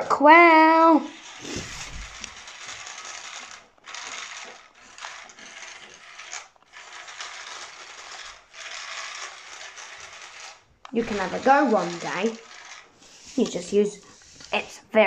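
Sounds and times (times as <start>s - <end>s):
toy helicopter motor whirring: 0.0s - 14.8s.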